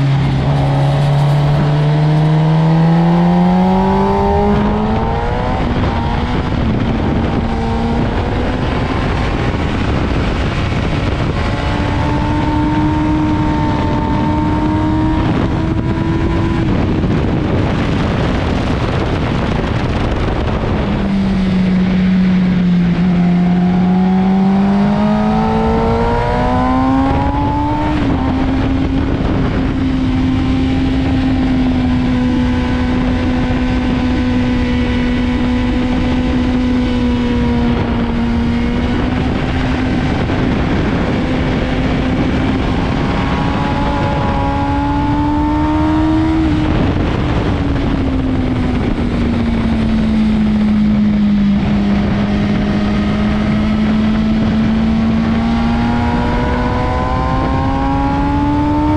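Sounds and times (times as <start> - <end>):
motorcycle engine running hard: 0.0 - 58.9
wind rush: 0.0 - 58.9.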